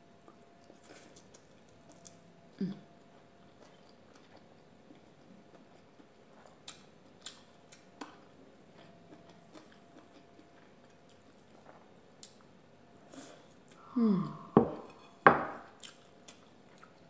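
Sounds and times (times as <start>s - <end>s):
person chewing: 0.2s - 2.8s, 3.4s - 12.5s, 13.2s - 17.0s.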